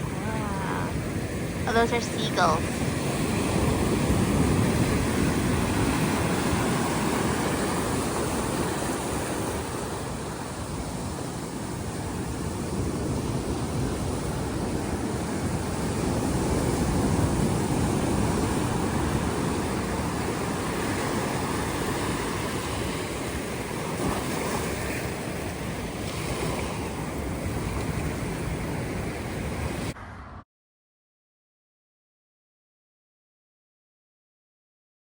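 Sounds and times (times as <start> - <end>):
ocean surf washing on beach: 0.0 - 30.0
wind buffeting microphone: 0.0 - 30.0.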